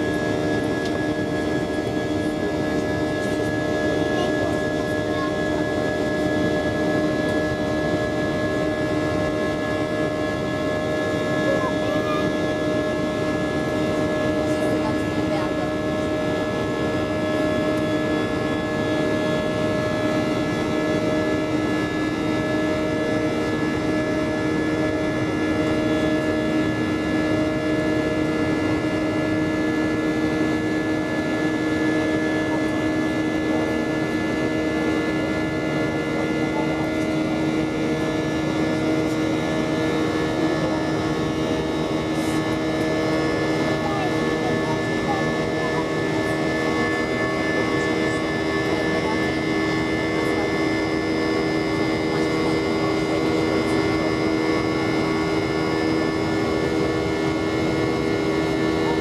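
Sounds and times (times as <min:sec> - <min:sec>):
jet engine roar in cabin: 0:00.0 - 0:59.0
steady whining tones: 0:00.0 - 0:59.0.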